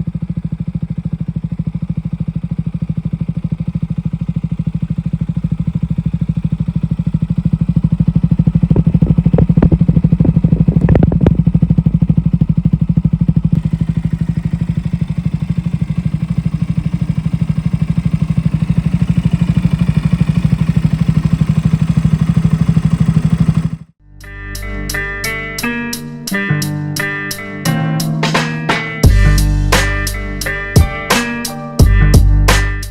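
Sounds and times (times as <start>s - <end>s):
motorcycle engine idling: 0.0s - 24.0s, 28.2s - 32.9s.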